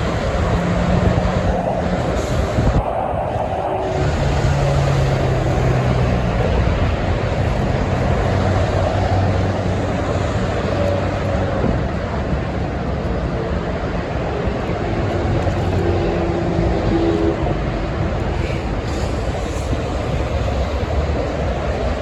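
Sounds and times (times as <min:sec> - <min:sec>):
highway traffic: 0:00.0 - 0:22.0.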